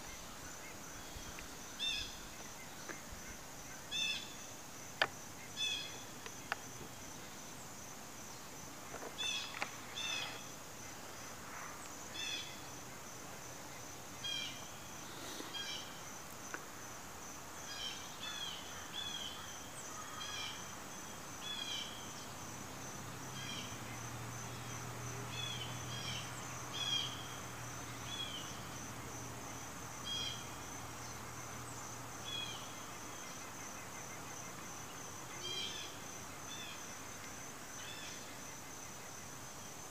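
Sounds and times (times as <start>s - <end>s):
insect chirps: 0.0s - 39.9s
insects trilling: 0.0s - 39.9s.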